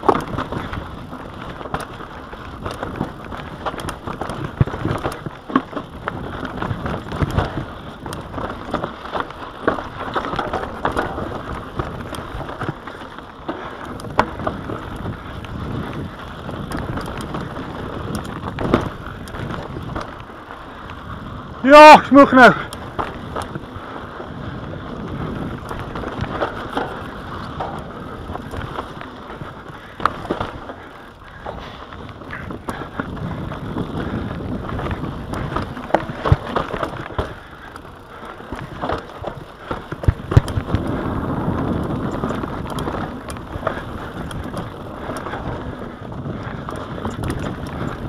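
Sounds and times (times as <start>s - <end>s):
bike chain and frame rattling: 0.0s - 48.0s
bike tyres rushing on dirt: 0.0s - 48.0s.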